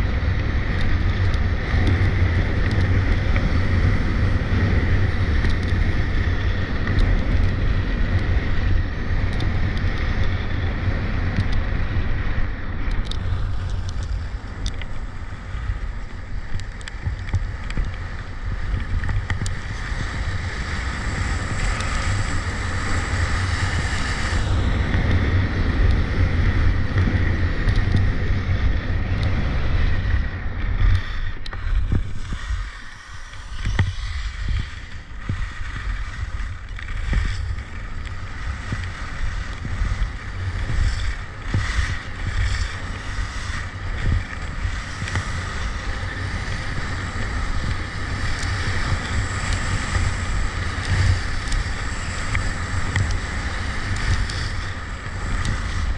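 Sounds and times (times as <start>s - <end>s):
skis hissing over snow: 0.0s - 12.5s, 13.1s - 30.2s, 30.8s - 55.9s
wind buffeting microphone: 0.0s - 55.9s.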